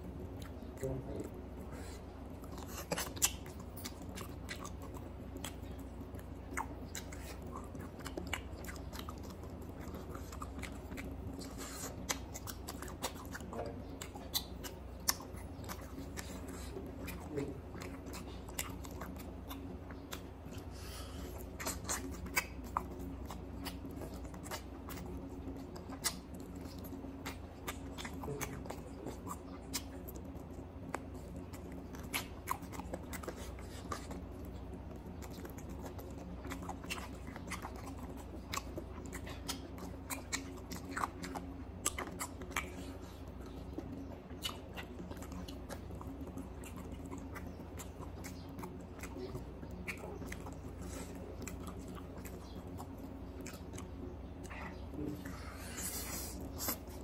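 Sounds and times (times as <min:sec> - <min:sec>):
chewing and mouth smacks: 0:00.0 - 0:57.0
steady low hum: 0:00.0 - 0:57.0.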